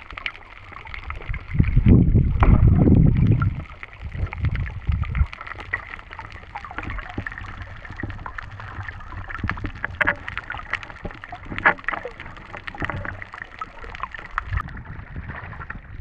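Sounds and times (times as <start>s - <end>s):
low underwater rumble: 0.0s - 16.0s
sharp underwater clicks and crackles: 0.0s - 16.0s.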